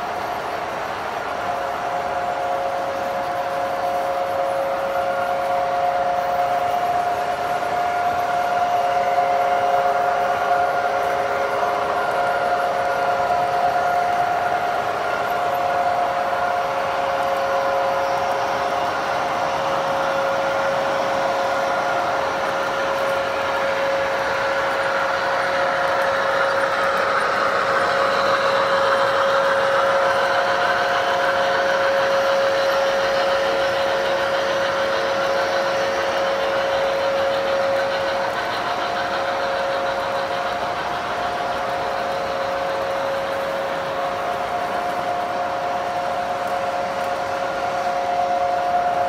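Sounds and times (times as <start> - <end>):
model train wheels rumbling: 0.0 - 49.0.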